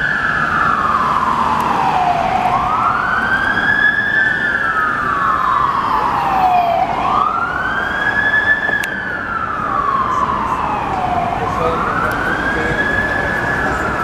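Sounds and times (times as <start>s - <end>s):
fire truck siren wailing: 0.0s - 14.0s
street traffic: 0.0s - 14.0s.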